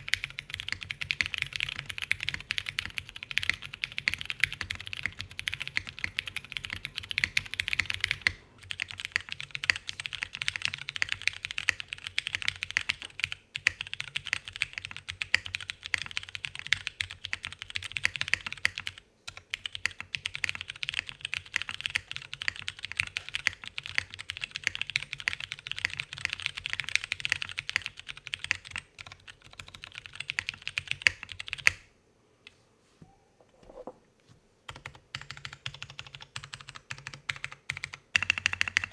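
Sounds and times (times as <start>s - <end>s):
fast mechanical keyboard typing: 0.0s - 31.8s, 34.7s - 38.9s.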